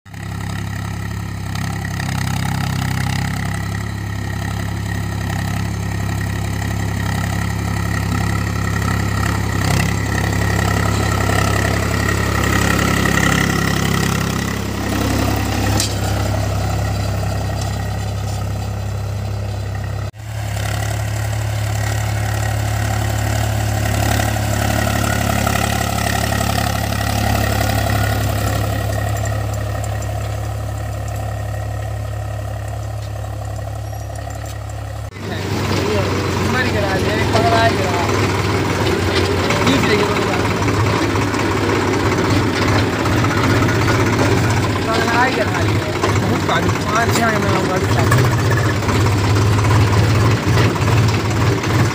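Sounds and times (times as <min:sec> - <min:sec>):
tractor diesel engine idling: 0:00.1 - 0:51.9.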